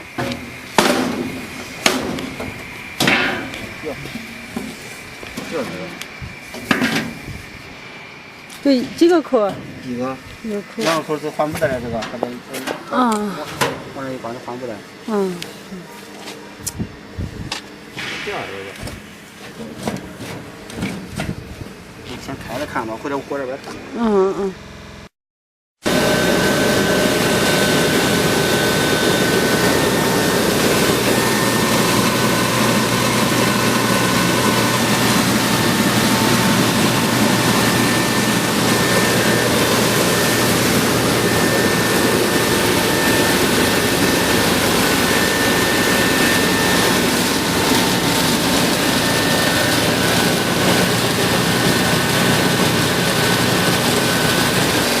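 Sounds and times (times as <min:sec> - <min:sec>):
milling machine running: 0:00.0 - 0:15.7, 0:25.9 - 0:55.0.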